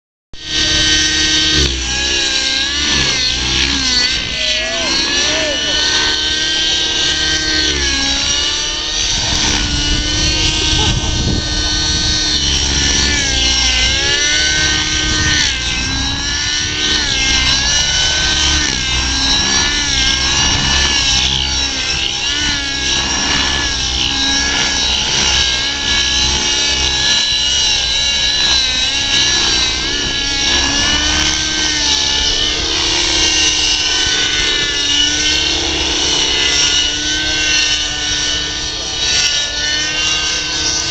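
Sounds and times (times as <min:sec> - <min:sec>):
model helicopter engine whining: 0:00.4 - 0:40.9.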